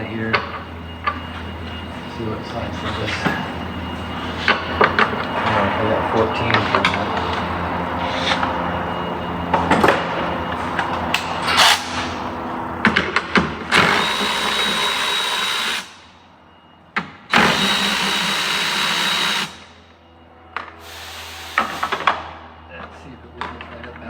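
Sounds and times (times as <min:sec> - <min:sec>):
power tool whining: 0:00.0 - 0:16.2, 0:17.0 - 0:20.0, 0:20.6 - 0:22.2.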